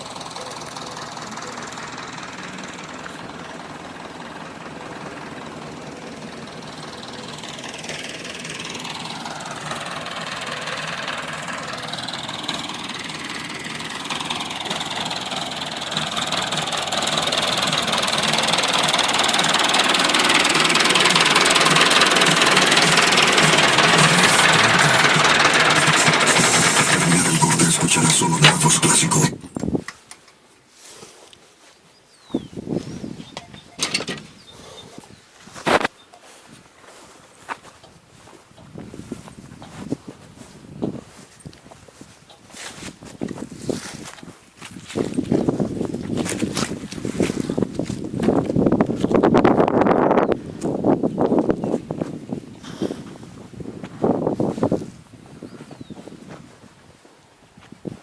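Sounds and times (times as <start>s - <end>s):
tractor diesel engine under load: 0.0s - 31.2s, 32.3s - 58.0s.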